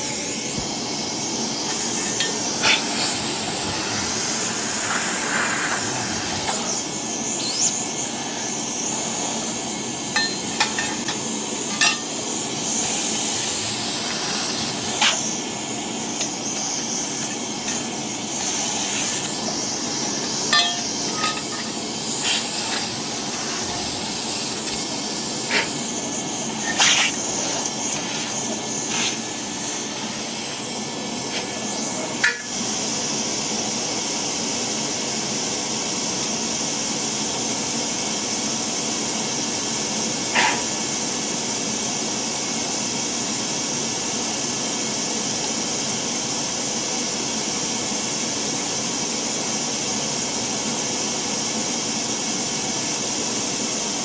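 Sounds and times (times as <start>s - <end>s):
vacuum running: 0.0s - 54.0s.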